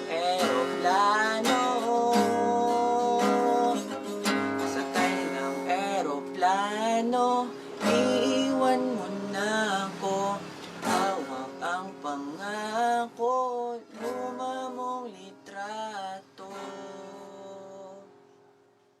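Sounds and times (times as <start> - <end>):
acoustic guitar ballad: 0.0 - 19.0.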